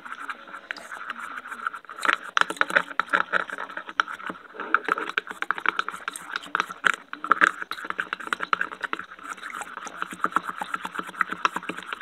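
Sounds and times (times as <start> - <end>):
wet gum kneaded in water: 0.0 - 12.0.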